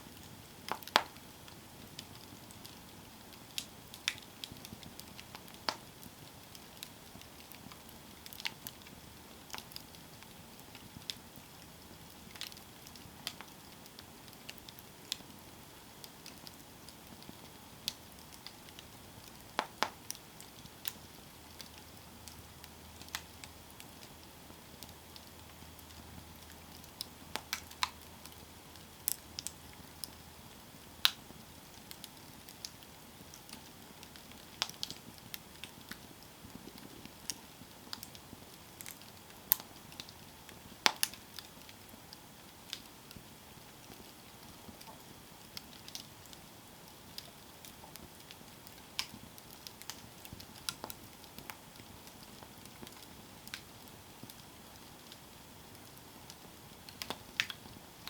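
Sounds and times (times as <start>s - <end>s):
campfire crackling and popping: 0.0s - 58.0s
faint steady hiss: 0.0s - 58.0s.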